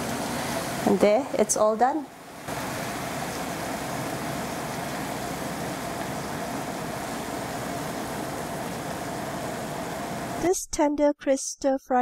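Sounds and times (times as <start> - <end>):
fan running: 0.0 - 10.8
faint steady hum: 0.0 - 11.8.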